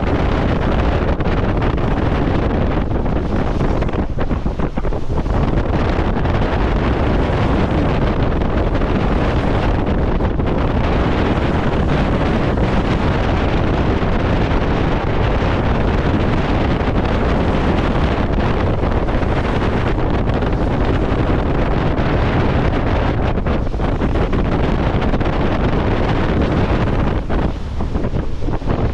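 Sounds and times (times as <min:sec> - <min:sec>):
water rushing along a hull: 0:00.0 - 0:28.9
wind buffeting microphone: 0:00.0 - 0:28.9.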